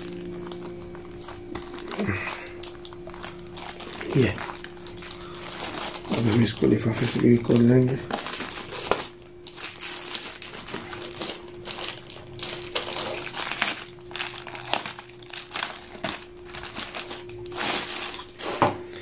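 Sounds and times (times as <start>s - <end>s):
plastic bag crinkling: 0.0s - 18.8s.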